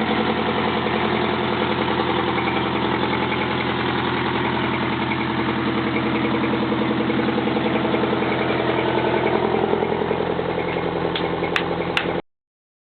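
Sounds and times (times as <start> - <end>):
fire truck diesel engine idling: 0.0 - 12.2.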